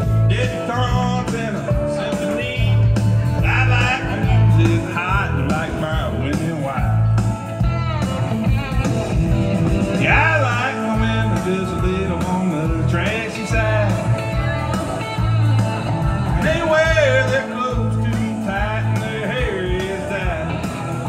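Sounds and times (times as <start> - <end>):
man singing karaoke: 0.0 - 7.4, 9.0 - 21.0
country backing track: 0.0 - 21.0.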